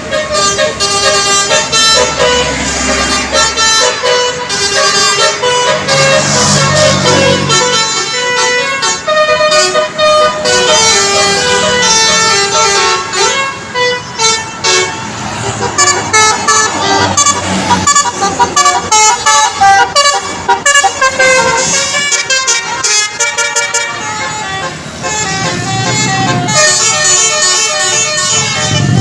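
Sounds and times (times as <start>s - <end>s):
multi-tone bus horn melody: 0.0s - 29.0s.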